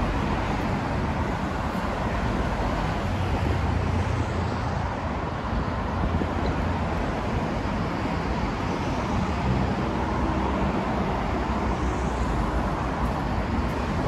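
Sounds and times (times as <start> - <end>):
city road traffic: 0.0 - 14.0.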